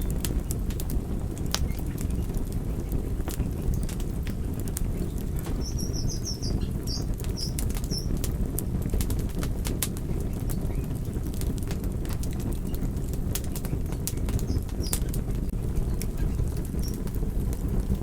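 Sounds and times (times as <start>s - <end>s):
fire crackling and rumbling: 0.0s - 18.0s.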